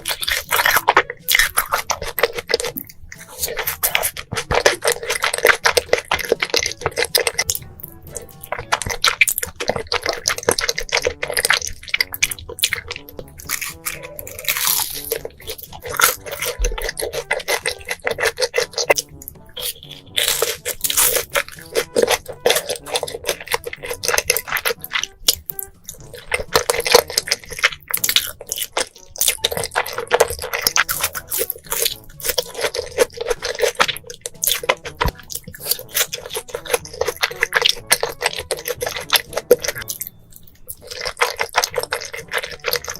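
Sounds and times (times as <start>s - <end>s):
slurping and chewing noodles: 0.0s - 42.9s.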